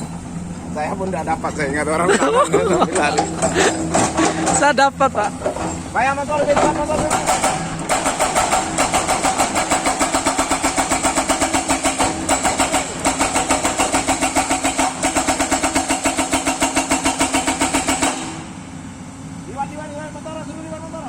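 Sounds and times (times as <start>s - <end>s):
heavy machinery pounding: 0.0s - 18.7s.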